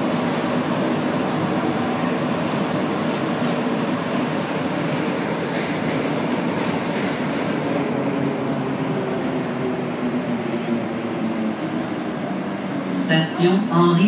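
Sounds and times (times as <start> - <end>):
train rolling rush: 0.0 - 14.0.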